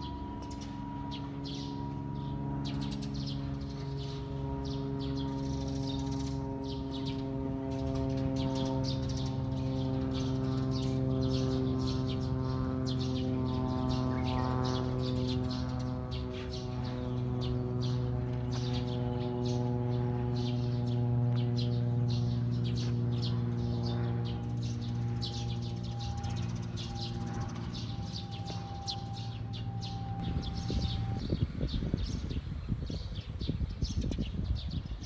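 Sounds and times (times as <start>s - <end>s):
gong-like ringing drone: 0.0s - 32.3s
small birds chirping: 0.0s - 35.0s.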